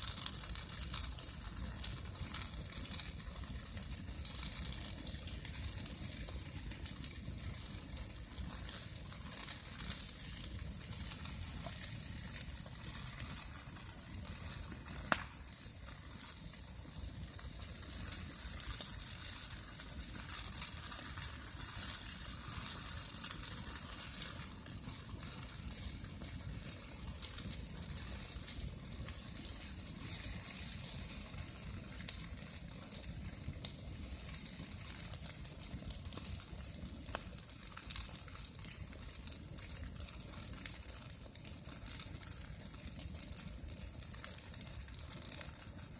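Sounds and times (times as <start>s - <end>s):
bonfire burning with hiss: 0.0s - 45.9s
burning wood popping: 0.0s - 45.9s.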